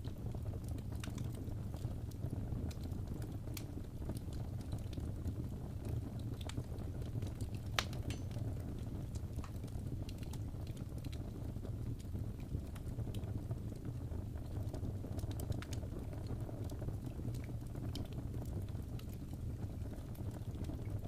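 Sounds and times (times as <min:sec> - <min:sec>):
fire popping and snapping: 0:00.0 - 0:21.0
wood fire crackling: 0:00.0 - 0:21.0.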